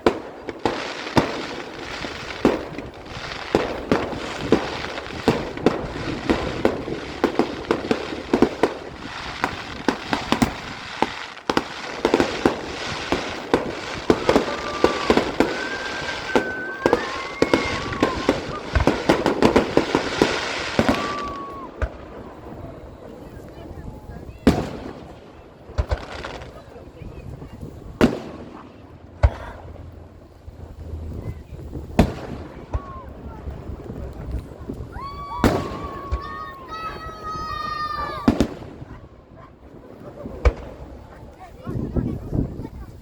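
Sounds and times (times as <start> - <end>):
fireworks bangs and pops: 0.0 - 43.0
fireworks whistling: 0.0 - 43.0.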